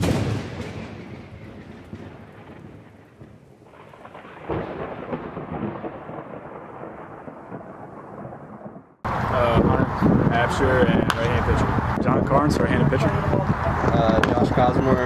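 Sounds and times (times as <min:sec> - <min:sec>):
loud thunderclap: 0:00.0 - 0:15.0
rolling thunder: 0:00.0 - 0:15.0.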